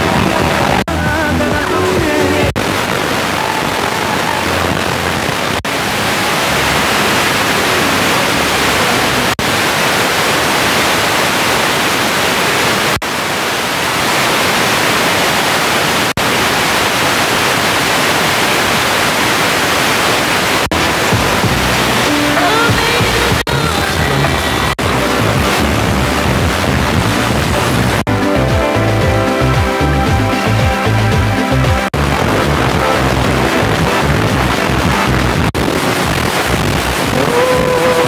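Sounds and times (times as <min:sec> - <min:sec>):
radio static hiss: 0:01.6 - 0:28.1, 0:31.9 - 0:38.0.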